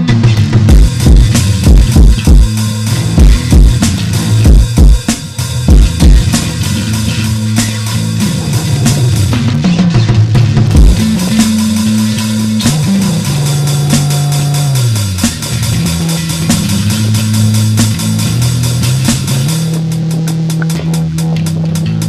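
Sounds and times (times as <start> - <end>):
drum kit beat: 0.0 - 22.0
guitar: 0.0 - 22.0
sliding bass guitar line: 0.0 - 22.0.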